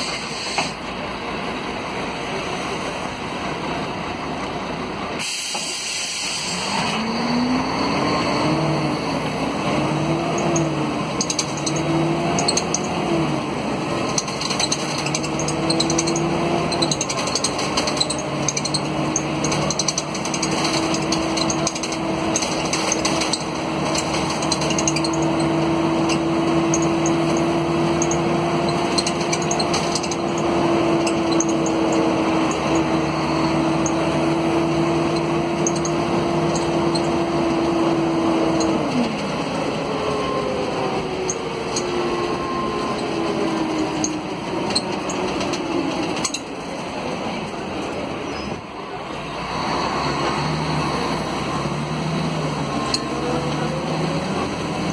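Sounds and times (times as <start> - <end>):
bus diesel engine accelerating: 0.0 - 54.9.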